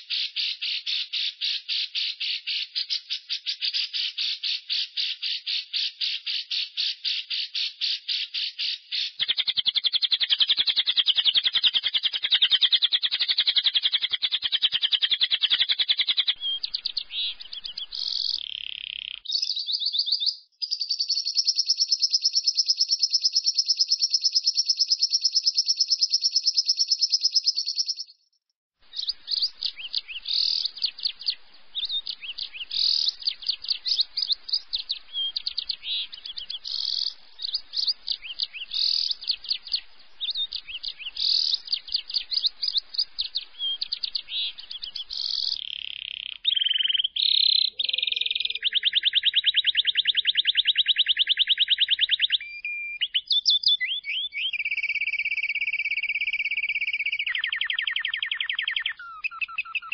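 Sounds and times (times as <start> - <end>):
lovebird chirping and trilling: 0.0 - 59.9.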